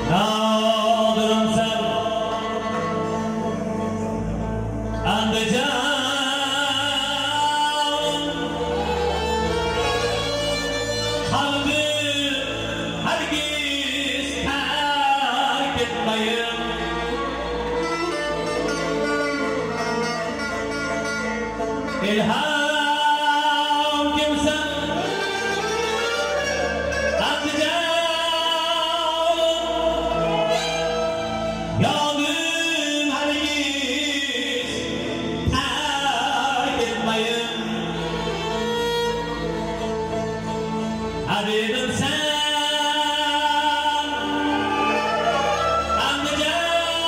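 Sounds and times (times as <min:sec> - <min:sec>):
bowed fiddle: 0:00.0 - 0:47.0
man singing into microphone: 0:00.0 - 0:47.0.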